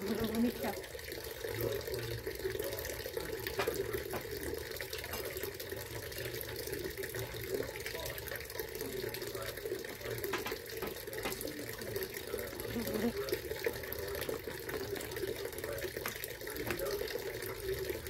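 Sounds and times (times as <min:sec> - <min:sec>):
fountain water splashing: 0:00.0 - 0:18.0.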